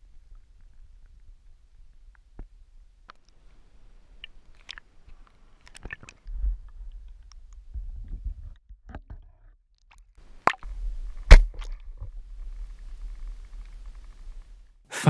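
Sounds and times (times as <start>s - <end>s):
low rumble of moving water: 0.0s - 9.2s, 10.2s - 14.8s.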